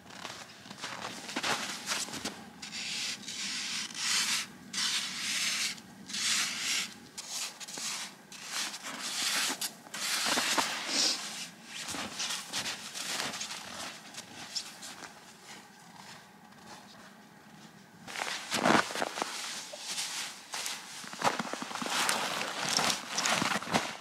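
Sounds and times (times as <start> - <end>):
crunching strokes in snow: 0.1 - 16.2, 18.1 - 24.0.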